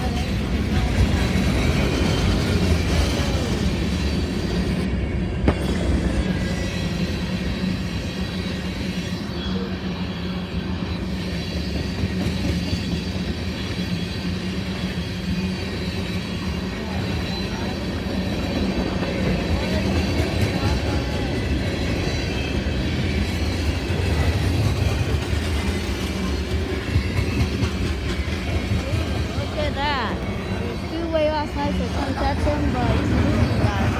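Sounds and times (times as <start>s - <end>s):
freight train rumbling past: 0.0s - 33.9s.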